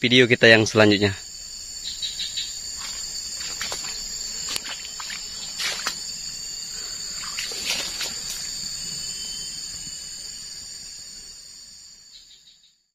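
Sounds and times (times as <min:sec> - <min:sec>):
high-pitched insect chorus: 0:00.0 - 0:12.9.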